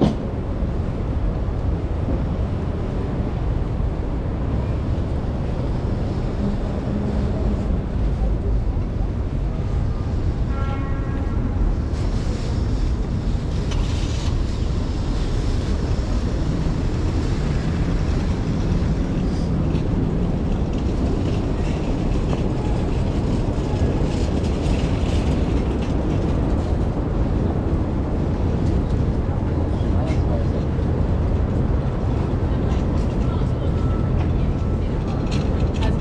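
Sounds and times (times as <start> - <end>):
street traffic rumble: 0.0 - 36.0.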